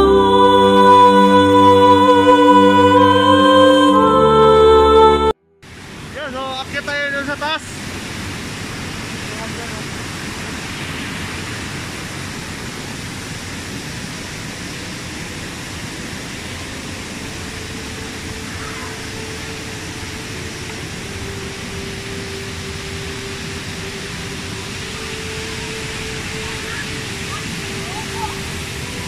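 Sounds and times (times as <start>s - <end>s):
waterfall rushing: 5.7s - 29.0s.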